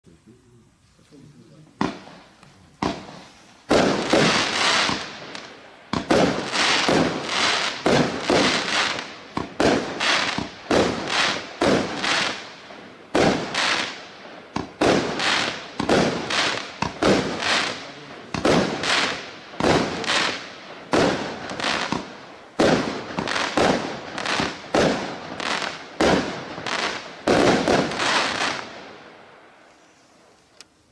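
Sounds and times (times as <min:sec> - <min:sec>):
firework crackling: 0:00.9 - 0:30.9
firework launch bangs: 0:02.8 - 0:12.5, 0:13.1 - 0:28.7.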